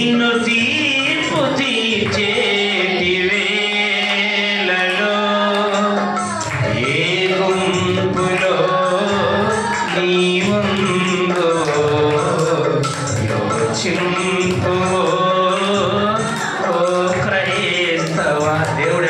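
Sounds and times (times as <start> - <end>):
person singing: 0.0 - 19.0.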